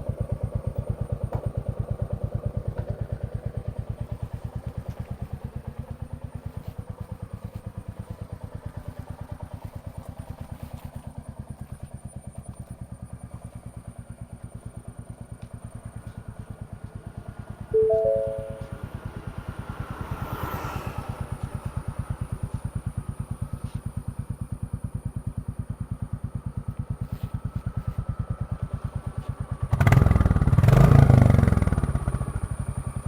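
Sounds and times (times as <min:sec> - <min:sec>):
motorcycle engine idling: 0:00.0 - 0:17.6, 0:21.2 - 0:33.0.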